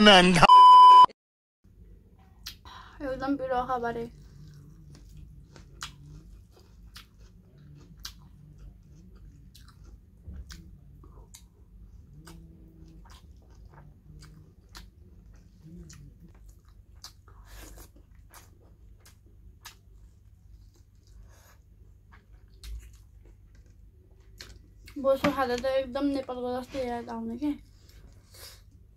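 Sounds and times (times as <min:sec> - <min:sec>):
faint chewing: 0:04.0 - 0:28.9.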